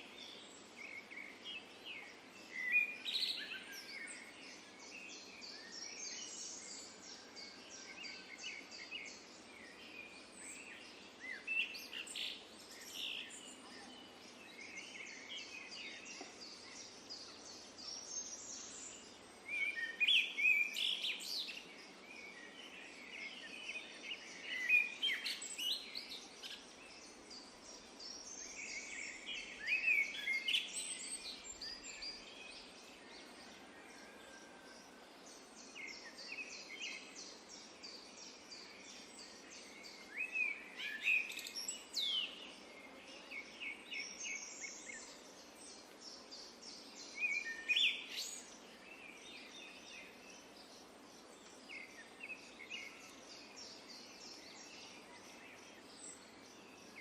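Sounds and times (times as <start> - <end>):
low background hiss: 0.0 - 57.0
songbirds singing: 0.0 - 57.0.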